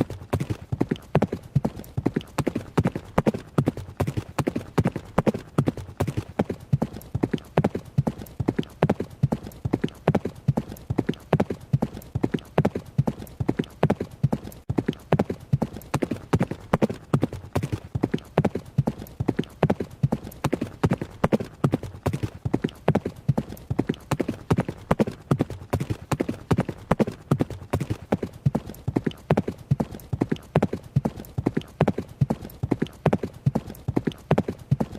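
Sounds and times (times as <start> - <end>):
horse hooves galloping: 0.0 - 34.9.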